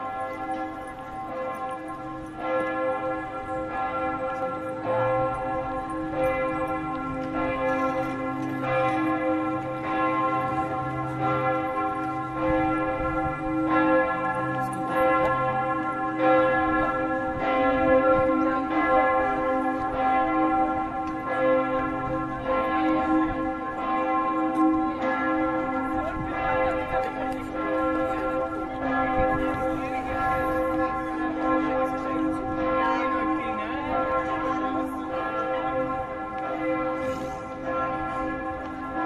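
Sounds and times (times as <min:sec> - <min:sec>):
large church bell ringing: 0:00.0 - 0:39.0.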